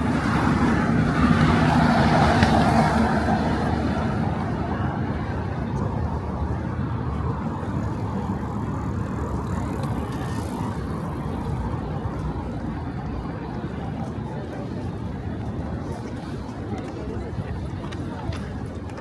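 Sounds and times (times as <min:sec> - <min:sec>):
cars passing on road: 0:00.0 - 0:19.0.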